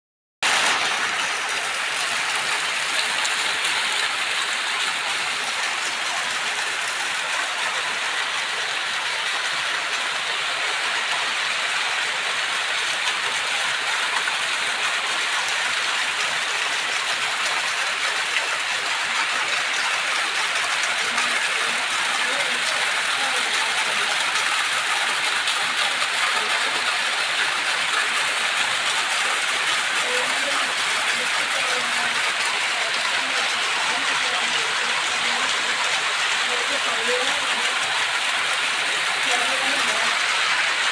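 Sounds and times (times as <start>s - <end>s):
heavy rain falling: 0.4s - 40.9s.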